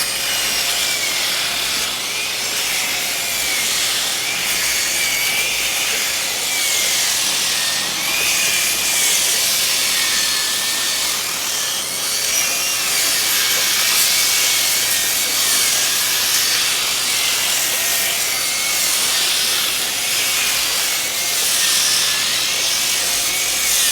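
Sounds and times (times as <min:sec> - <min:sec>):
power sander on wood: 0:00.0 - 0:23.9.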